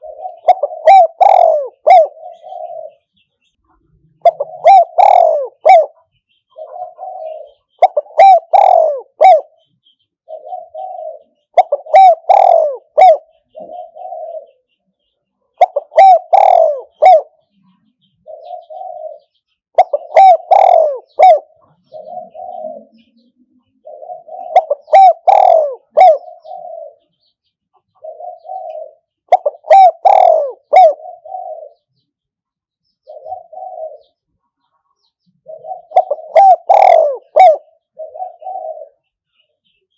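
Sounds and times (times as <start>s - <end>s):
dove cooing: 0.0s - 3.2s, 4.1s - 14.7s, 15.6s - 32.0s, 33.0s - 34.3s, 35.3s - 39.2s.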